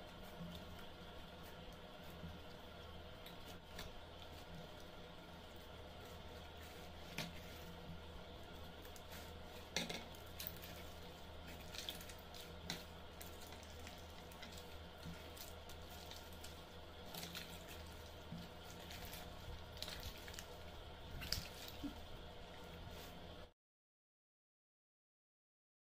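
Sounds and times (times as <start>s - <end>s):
faint steady hum: 0.0s - 23.5s
slime squelching: 0.0s - 23.5s.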